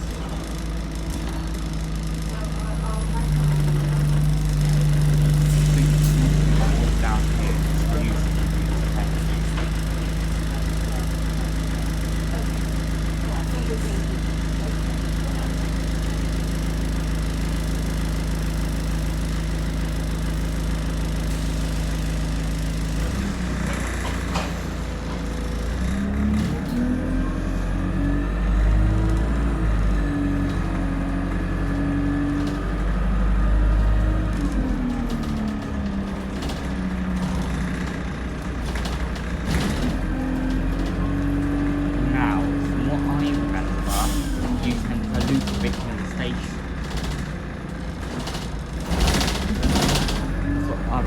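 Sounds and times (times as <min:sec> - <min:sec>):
bus engine running: 0:00.0 - 0:51.0.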